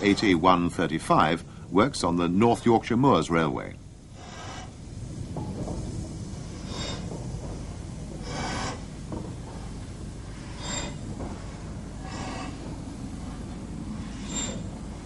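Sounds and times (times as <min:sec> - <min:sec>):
steady low rumble: 0:00.0 - 0:15.0
steam locomotive exhaust chuffs: 0:00.0 - 0:15.0.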